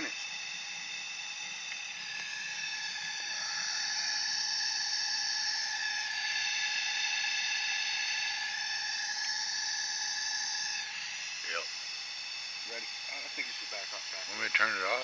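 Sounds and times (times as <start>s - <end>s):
furnace hissing with whining tones: 0.0s - 15.0s.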